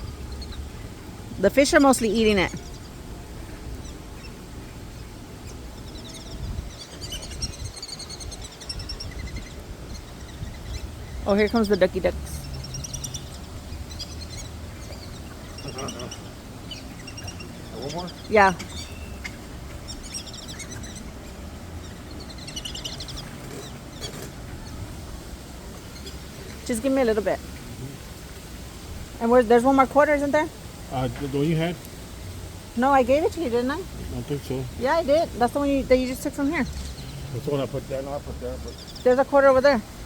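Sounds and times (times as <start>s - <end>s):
low background rumble: 0.0s - 40.0s
outdoor background noise: 0.0s - 40.0s
small birds chirping: 0.0s - 40.0s.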